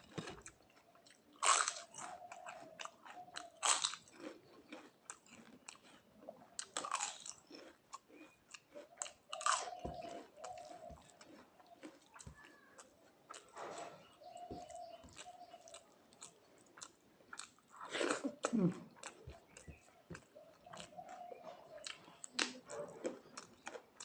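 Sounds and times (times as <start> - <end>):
chewing with mouth clicks: 0.0 - 24.0
crunching bites of crisp food: 0.0 - 24.0.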